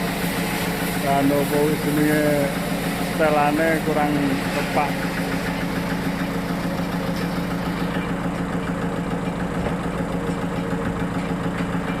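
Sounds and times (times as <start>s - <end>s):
sawmill machinery drone: 0.0s - 12.0s.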